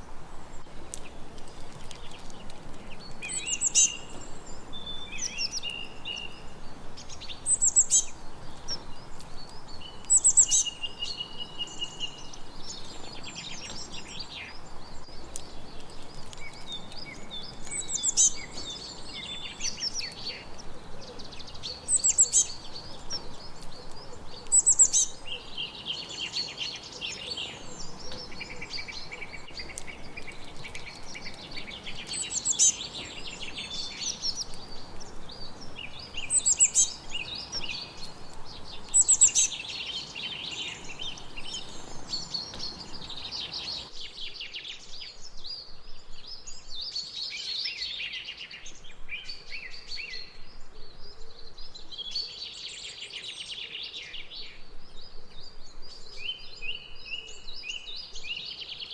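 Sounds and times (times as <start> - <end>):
songbirds singing and trilling: 0.0 - 58.9.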